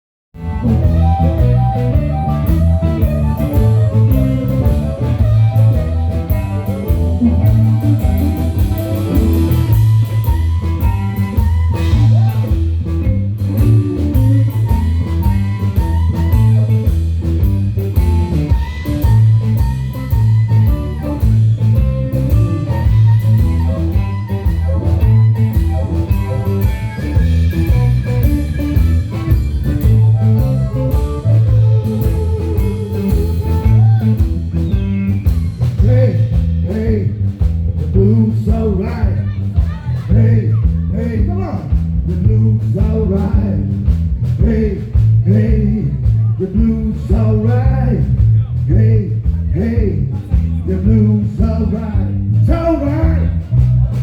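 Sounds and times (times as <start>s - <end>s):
electric blues band playing: 0.4s - 54.0s.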